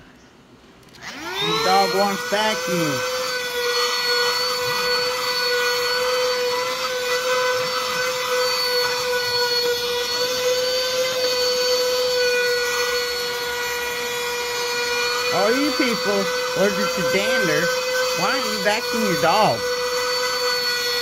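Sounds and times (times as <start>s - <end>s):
vacuum cleaner running: 1.0s - 21.0s.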